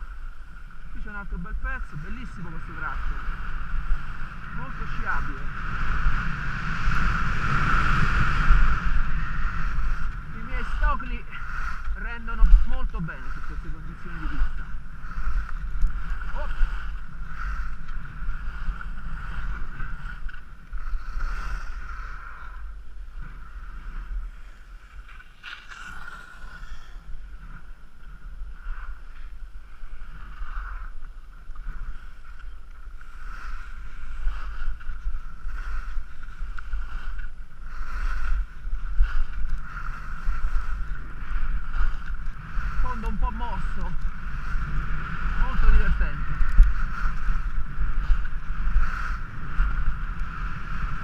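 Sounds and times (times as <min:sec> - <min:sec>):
skis scraping over snow: 0:00.0 - 0:51.0
wind buffeting microphone: 0:00.0 - 0:51.0.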